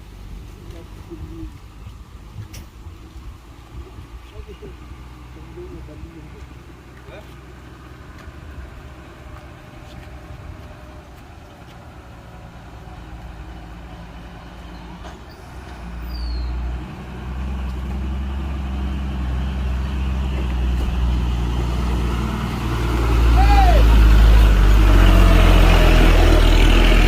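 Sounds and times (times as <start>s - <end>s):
heavy truck engine: 0.0s - 27.0s.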